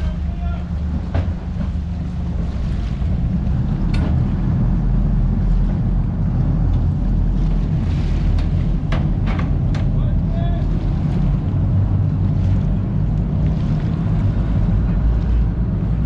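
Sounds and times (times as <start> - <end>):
diesel engines rumbling: 0.0 - 16.0
wind buffeting microphone: 0.0 - 16.0.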